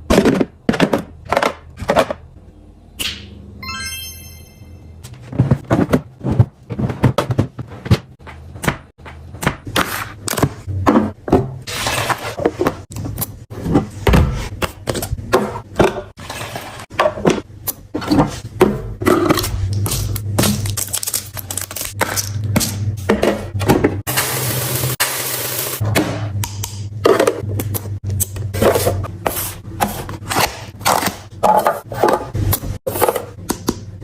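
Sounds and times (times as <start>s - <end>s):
items knocking and clicking: 0.0s - 2.4s, 5.0s - 11.7s, 12.3s - 24.1s, 25.8s - 34.0s.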